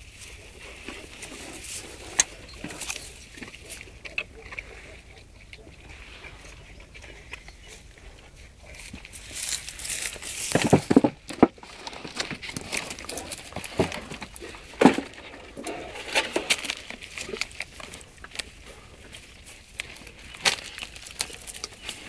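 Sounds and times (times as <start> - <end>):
dogs chewing grass: 0.0 - 10.6, 11.7 - 22.0.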